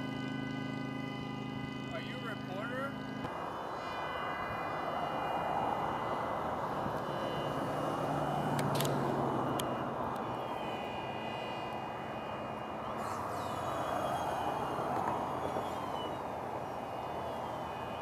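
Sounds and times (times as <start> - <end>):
highway traffic rushing: 0.0 - 18.0.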